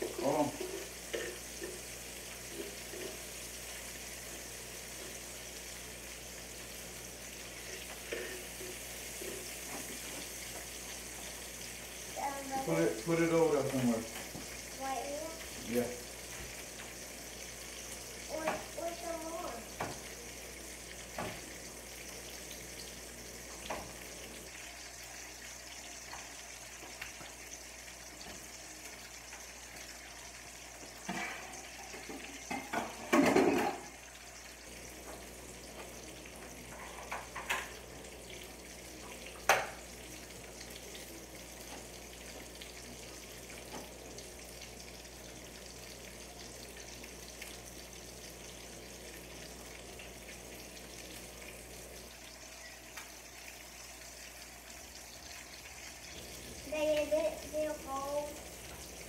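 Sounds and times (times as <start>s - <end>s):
sausage sizzling in a pan: 0.0s - 59.0s.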